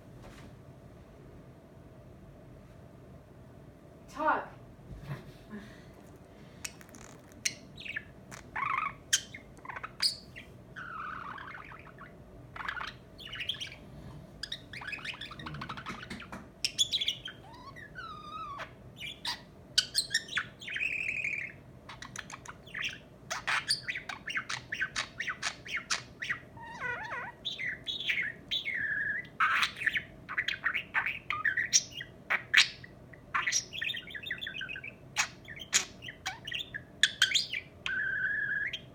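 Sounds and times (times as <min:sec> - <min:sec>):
budgerigar warbling and chattering: 0:06.6 - 0:38.9.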